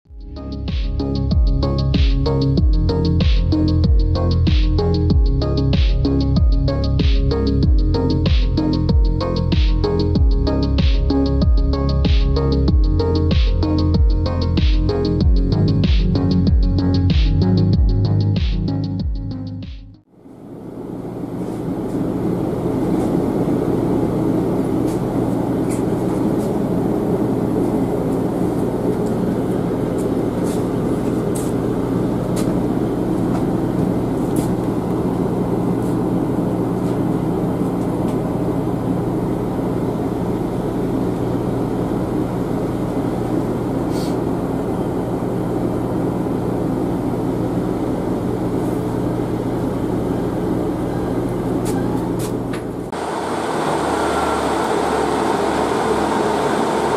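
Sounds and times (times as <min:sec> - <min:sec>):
train carriage running drone: 0:00.2 - 0:19.5, 0:20.1 - 0:56.9.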